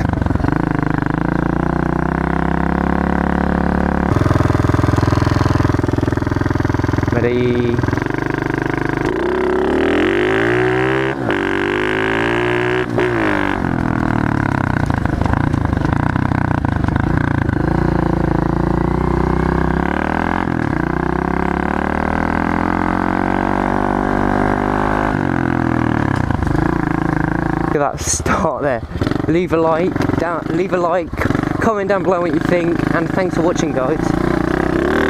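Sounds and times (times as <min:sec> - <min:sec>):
pit bike engine accelerating: 0:00.0 - 0:35.0.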